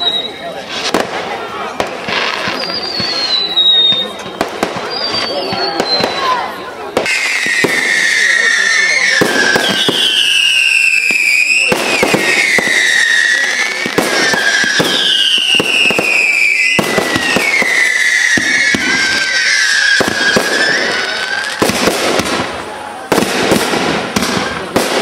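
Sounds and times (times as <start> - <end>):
firework bangs: 0.0 - 25.0
firework whistles: 0.0 - 25.0
firework pops and crackles: 0.6 - 25.0.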